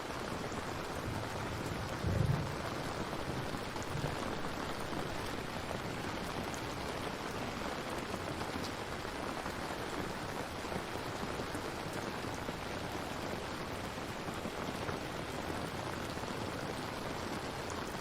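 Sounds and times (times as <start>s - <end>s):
steady rain patter: 0.0s - 18.0s.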